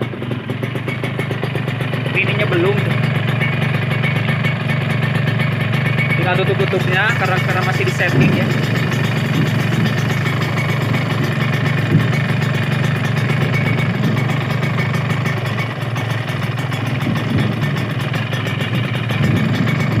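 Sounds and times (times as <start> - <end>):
two-stroke engine idling: 0.0 - 20.0.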